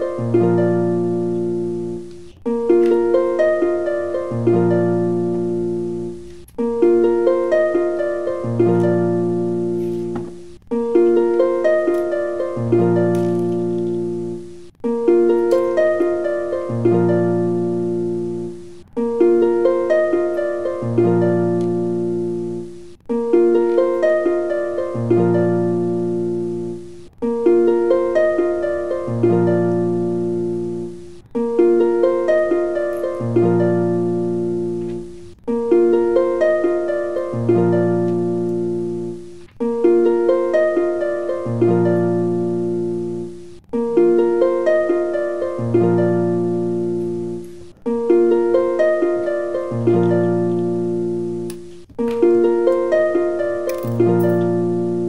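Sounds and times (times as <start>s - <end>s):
plucked notes looping: 0.0s - 55.0s.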